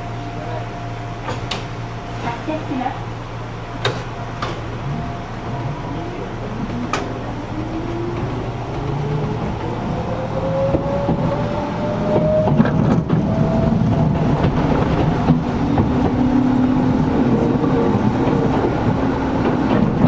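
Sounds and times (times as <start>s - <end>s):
train running rumble: 0.0s - 20.0s
electric train motor whine: 3.0s - 20.0s
wheels clicking on rail joints: 3.8s - 20.0s.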